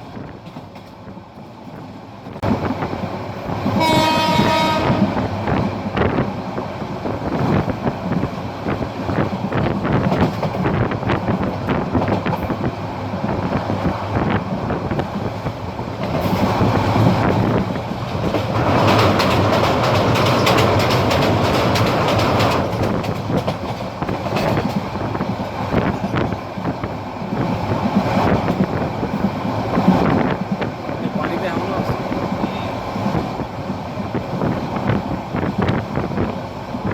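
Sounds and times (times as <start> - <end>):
train wheels clattering on rails: 0.0 - 36.9.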